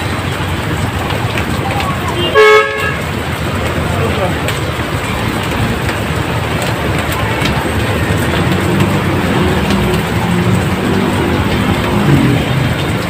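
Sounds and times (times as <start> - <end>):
heavy rain pouring: 0.0 - 13.0
vehicle engine running: 0.0 - 13.0.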